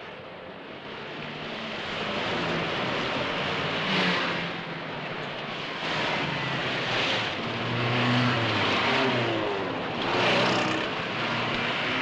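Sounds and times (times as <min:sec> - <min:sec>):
vehicles passing close: 0:00.7 - 0:12.0.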